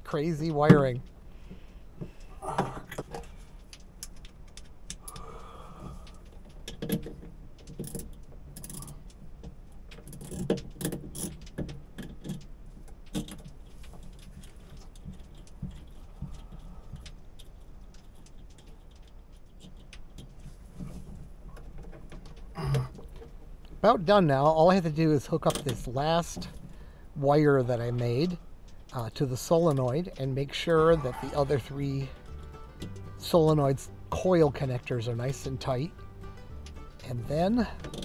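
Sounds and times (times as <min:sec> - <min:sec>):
wire connectors clicking and rustling: 0:00.0 - 0:27.2, 0:27.8 - 0:38.0
low steady hum: 0:00.0 - 0:38.0.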